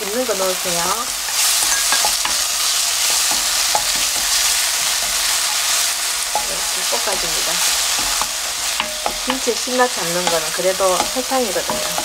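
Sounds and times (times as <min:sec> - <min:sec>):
food sizzling in oil: 0:00.0 - 0:12.0
wooden spoon scraping: 0:01.1 - 0:12.0
spoon knocking against pan: 0:01.3 - 0:05.7, 0:06.3 - 0:12.0.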